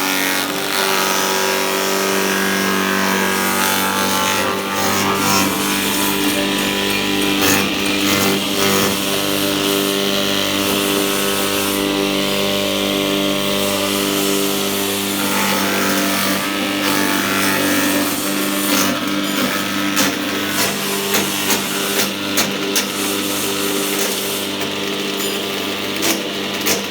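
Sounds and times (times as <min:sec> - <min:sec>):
blades cutting material: 0:00.0 - 0:24.6
chopping machine motor hum: 0:02.1 - 0:26.9.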